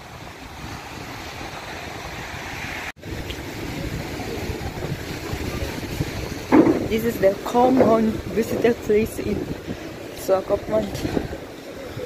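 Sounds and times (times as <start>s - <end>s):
surf washing on a beach: 0.0s - 12.0s
wind buffeting the microphone: 0.0s - 12.0s.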